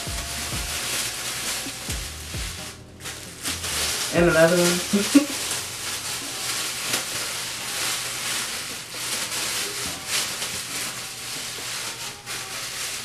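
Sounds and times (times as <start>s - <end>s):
plastic shower cap crinkling: 0.0s - 13.0s.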